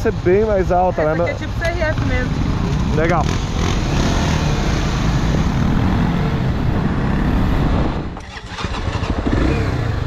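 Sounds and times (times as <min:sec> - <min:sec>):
motorcycle engine running: 0:00.2 - 0:10.0.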